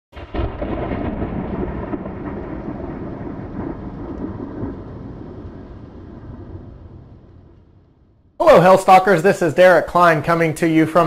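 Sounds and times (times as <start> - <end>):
thunder rumbling: 0.2 - 11.0.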